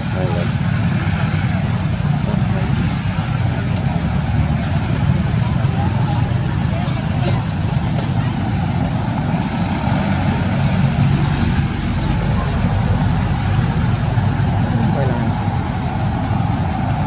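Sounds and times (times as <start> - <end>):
faint voices: 0.0 - 17.0
steady low rumble: 0.0 - 17.0.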